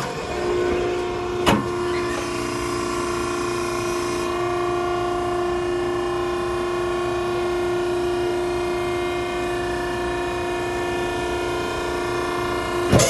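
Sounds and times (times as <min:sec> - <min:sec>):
machine hum with whining tone: 0:00.0 - 0:13.0.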